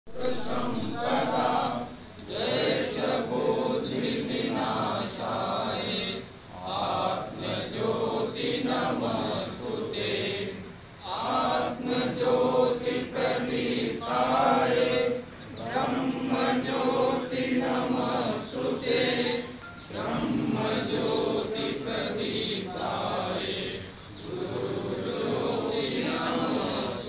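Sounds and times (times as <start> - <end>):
men chanting a prayer in unison: 0.1 - 27.0.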